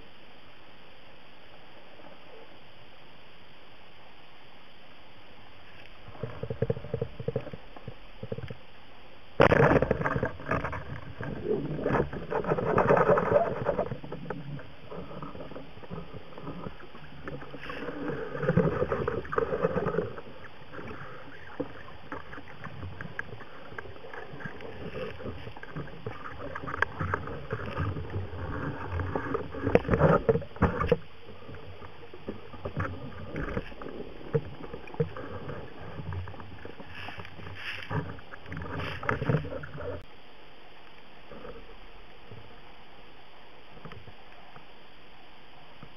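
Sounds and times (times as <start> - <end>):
muffled underwater water rushing: 0.0 - 45.9.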